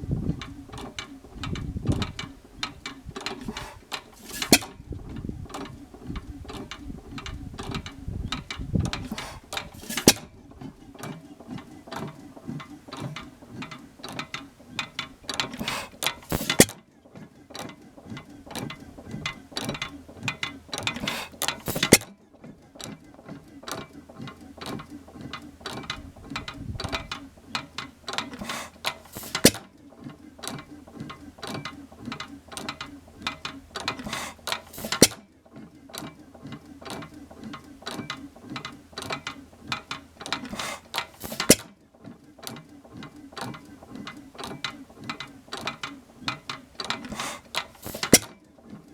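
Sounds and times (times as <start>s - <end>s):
valve gear clicking and clatter: 0.0s - 48.9s.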